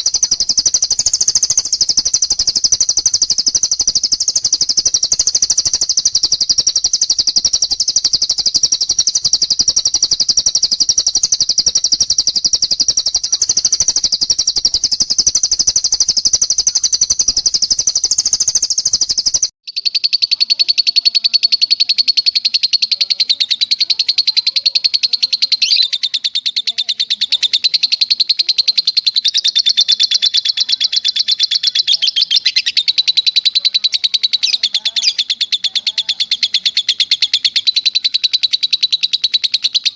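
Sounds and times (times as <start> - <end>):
high-pitched rapid bird trill: 0.0 - 39.9
lower rapid bird trill: 0.0 - 39.9.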